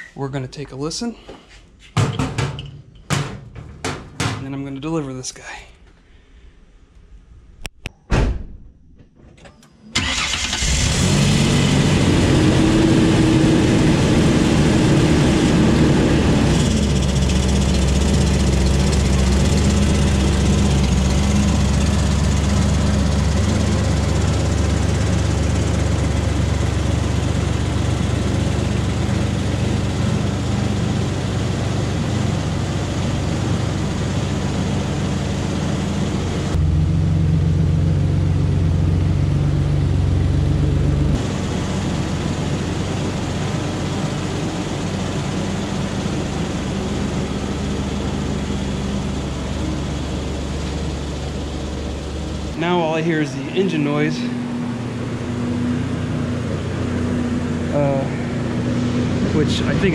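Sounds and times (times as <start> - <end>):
car engine starting and idling: 9.8 - 59.9
loud deep engine sound: 10.0 - 59.9.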